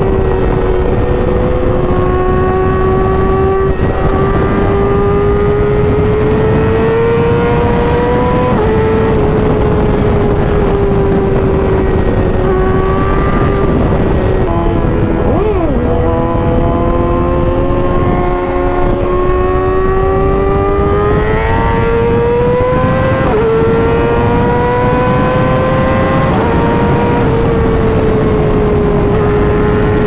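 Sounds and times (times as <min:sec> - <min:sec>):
motorcycle engine running hard: 0:00.0 - 0:30.0
wind noise on microphone: 0:00.0 - 0:30.0.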